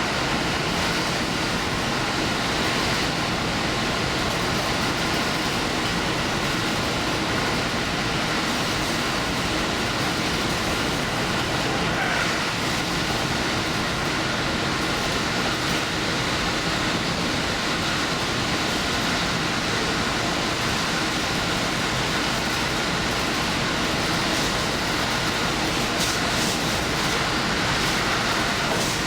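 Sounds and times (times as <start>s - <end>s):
diesel train running: 0.0s - 29.0s.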